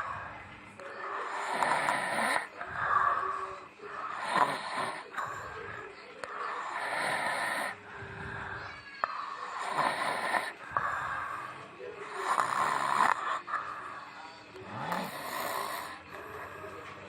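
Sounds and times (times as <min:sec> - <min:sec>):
person snoring: 0:00.0 - 0:00.4, 0:01.0 - 0:16.8.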